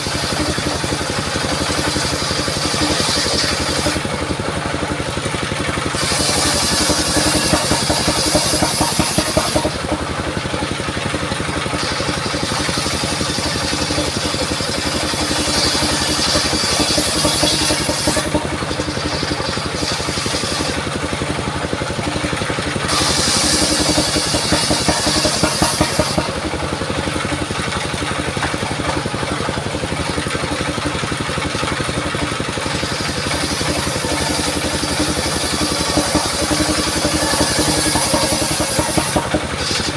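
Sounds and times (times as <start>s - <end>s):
circular saw engine drone: 0.0s - 39.9s
high-pitched blade cutting wood: 0.0s - 39.9s.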